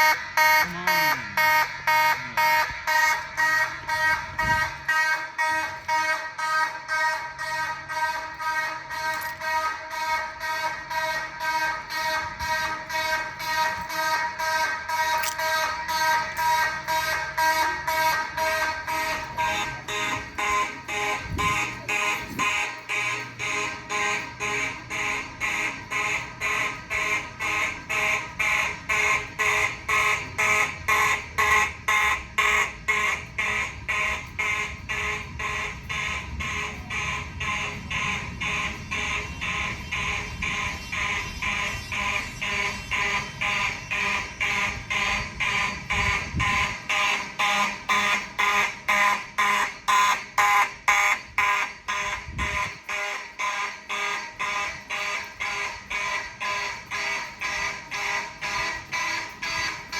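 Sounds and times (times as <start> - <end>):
fire alarm horn pulsing: 0.0 - 59.9.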